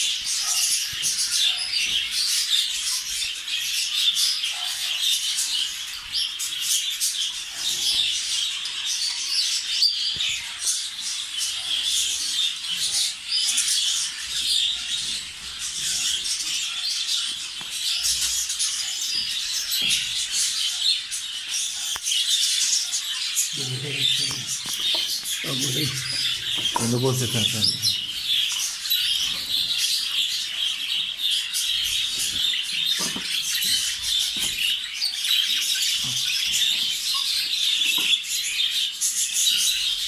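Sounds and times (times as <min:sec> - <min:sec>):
budgerigars chattering and chirping: 0:00.0 - 0:40.0.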